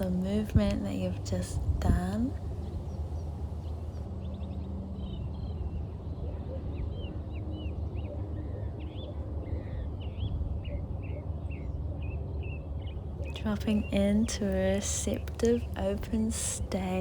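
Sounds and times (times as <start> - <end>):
low background rumble: 0.0 - 17.0
songbirds chirping: 0.0 - 17.0.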